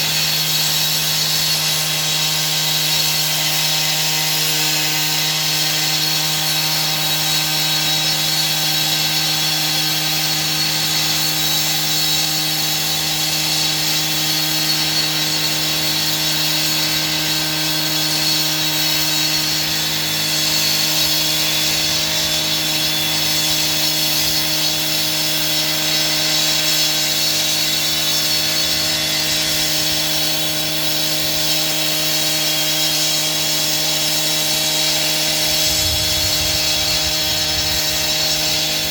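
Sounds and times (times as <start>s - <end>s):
power saw cutting: 0.0s - 38.9s.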